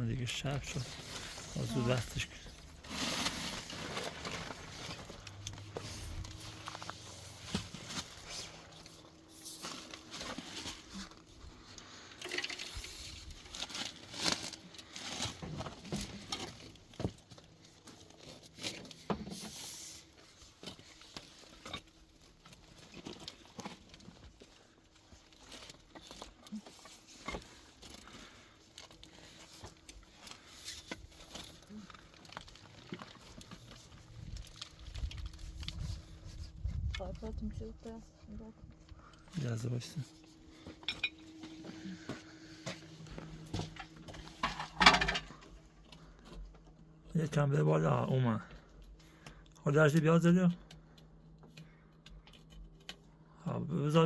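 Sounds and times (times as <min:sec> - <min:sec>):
rustling and crinkling: 0:00.0 - 0:53.2.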